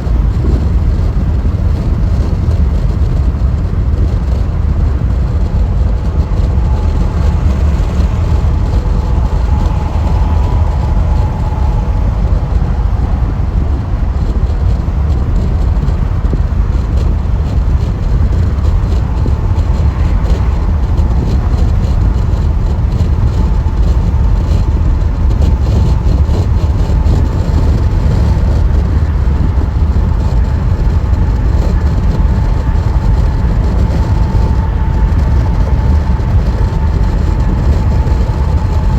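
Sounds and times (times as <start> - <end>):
faint whine: 0.0 - 38.9
tyre and road noise: 0.0 - 38.9.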